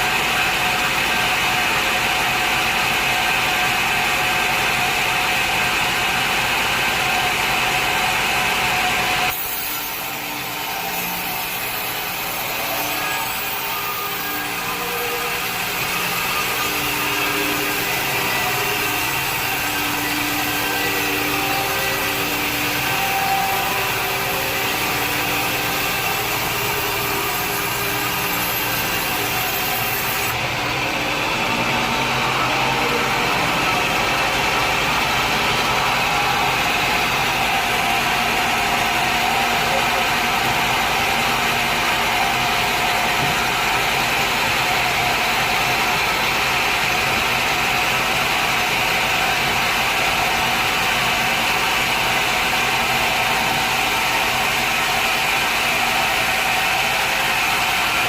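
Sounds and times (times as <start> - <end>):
saw noise: 0.0 - 58.0.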